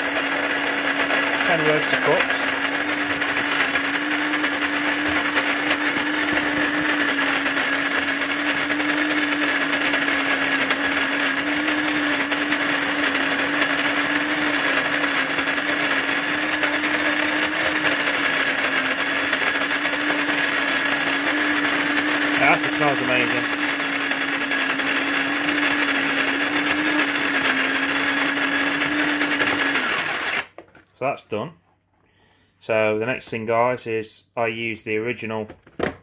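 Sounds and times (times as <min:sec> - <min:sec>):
coffee grinder motor whine: 0:00.0 - 0:30.6.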